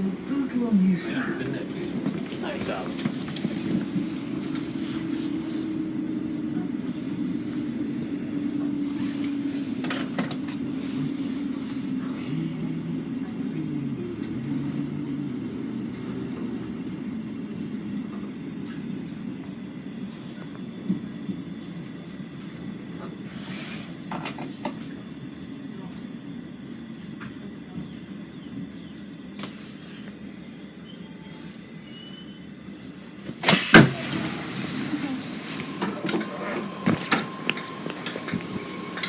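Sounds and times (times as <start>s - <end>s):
electric train running hum: 0.0s - 39.0s.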